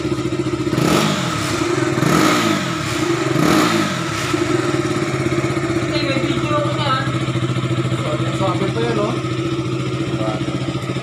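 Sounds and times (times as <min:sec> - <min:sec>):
engine revving: 0:00.0 - 0:11.0
motorcycle engine idling: 0:00.0 - 0:11.0.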